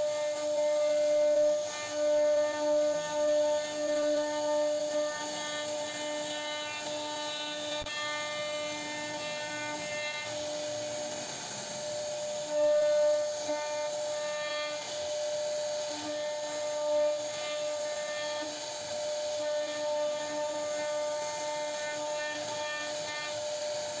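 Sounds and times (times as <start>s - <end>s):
bit cutting into wood: 0.0s - 24.0s
router spindle whining: 0.0s - 24.0s.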